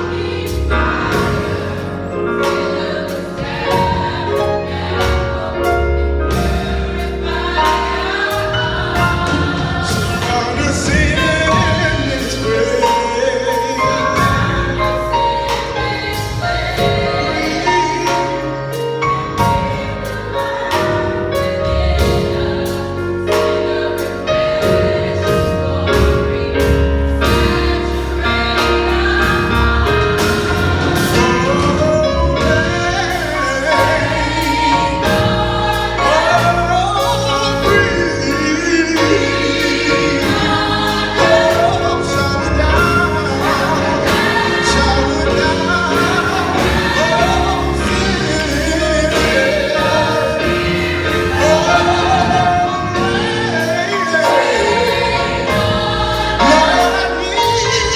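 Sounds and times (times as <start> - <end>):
drum hits: 0.0 - 38.2, 39.8 - 56.9
band accompaniment: 0.0 - 57.9
choir singing in harmony: 0.0 - 57.9.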